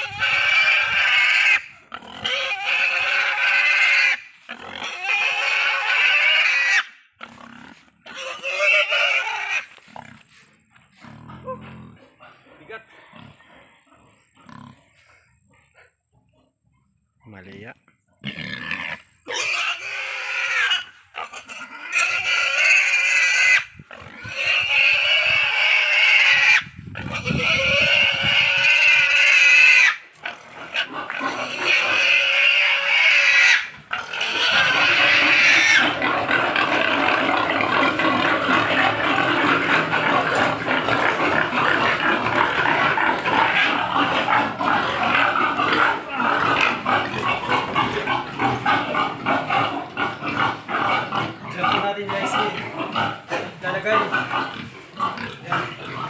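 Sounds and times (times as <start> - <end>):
young pig squealing: 0.0 - 10.2, 18.2 - 56.0.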